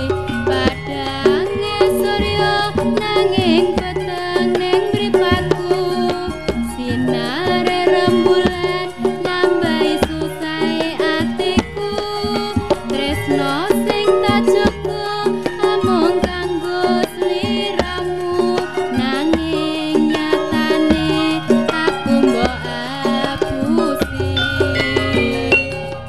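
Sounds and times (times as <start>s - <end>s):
sliding pitch melody: 0.0s - 16.4s, 19.1s - 26.0s
hand drum beat: 0.0s - 26.0s.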